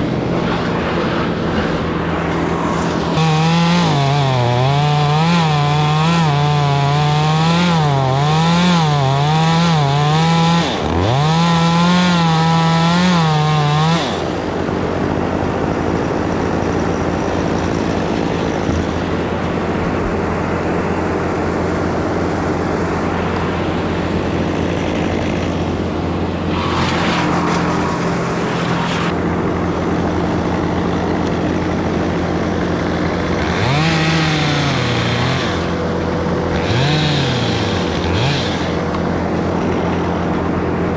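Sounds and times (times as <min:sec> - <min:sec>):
chainsaw cutting wood: 0:00.2 - 0:40.9.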